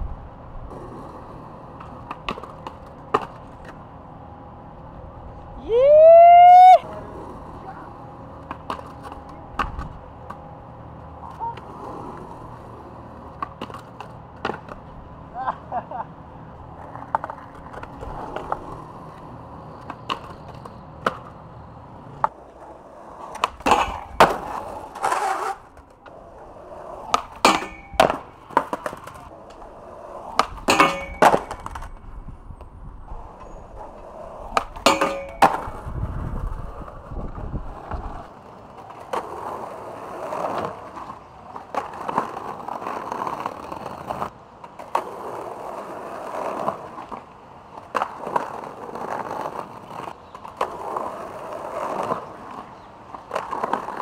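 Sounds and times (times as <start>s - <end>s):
skateboard clacking on ground: 0.0s - 5.5s, 6.5s - 54.0s
skateboard wheels rolling: 0.0s - 54.0s.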